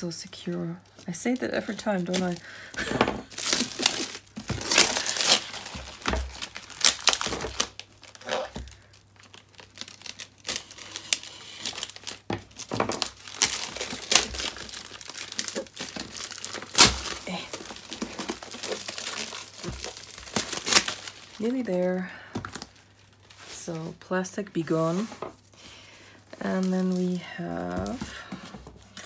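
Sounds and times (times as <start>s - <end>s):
plastic wrapping crinkling: 0.1s - 25.5s, 26.1s - 29.0s.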